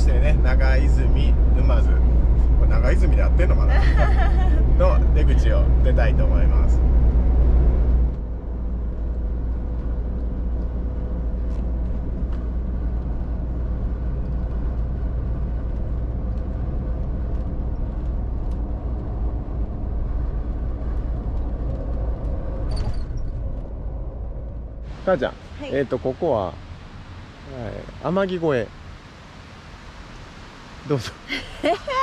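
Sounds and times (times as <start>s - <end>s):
van engine rumble inside cabin: 0.0s - 25.8s.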